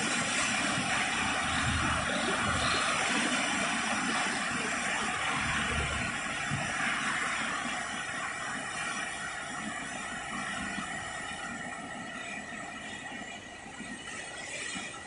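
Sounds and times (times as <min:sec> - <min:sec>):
water rushing over a weir: 0:00.0 - 0:15.0.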